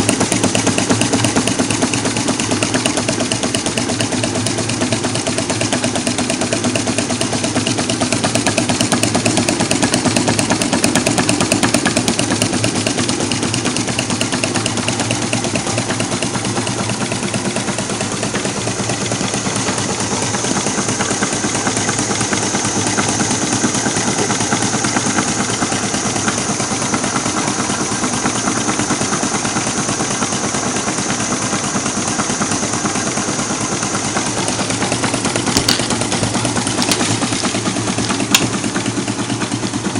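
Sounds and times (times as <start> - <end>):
engine mechanical clatter: 0.0 - 39.9
gas burners hissing: 0.0 - 39.9.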